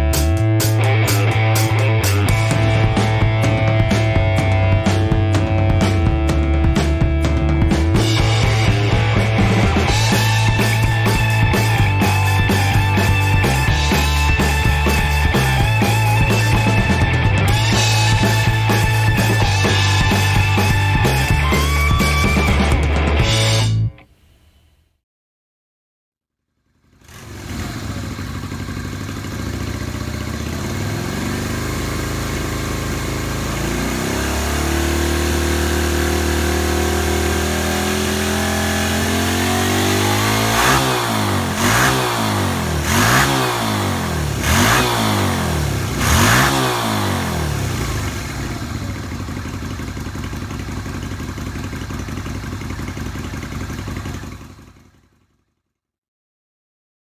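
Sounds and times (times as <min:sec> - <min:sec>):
motorcycle engine idling and revving: 0:00.0 - 0:23.8, 0:26.5 - 0:55.8.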